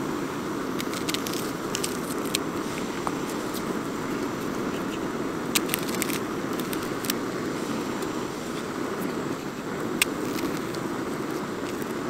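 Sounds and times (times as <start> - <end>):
gas stove burner hissing: 0.0 - 12.0.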